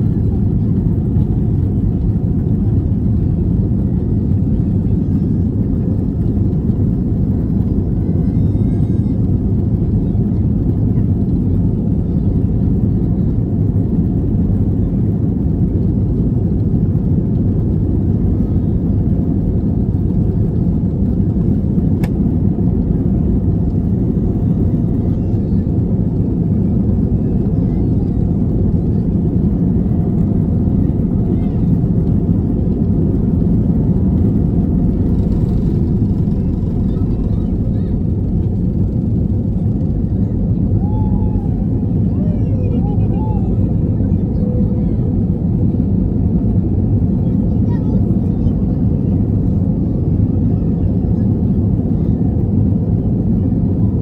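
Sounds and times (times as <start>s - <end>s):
aircraft engines running at low power: 0.0s - 54.0s
wheels rolling along taxiway: 0.1s - 46.1s.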